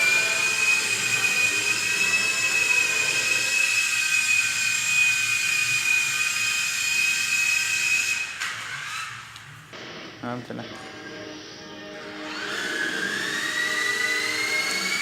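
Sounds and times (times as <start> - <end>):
toy helicopter motors whining: 0.0 - 9.3, 12.2 - 15.0.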